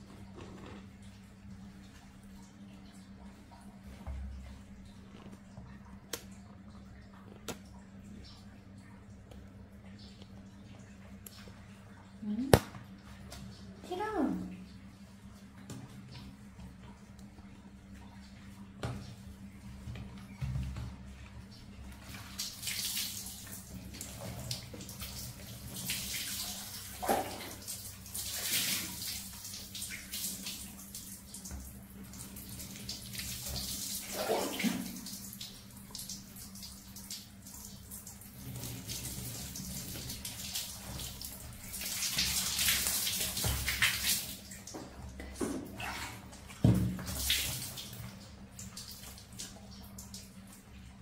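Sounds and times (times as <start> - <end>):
water pouring and splashing: 0.0 - 51.0.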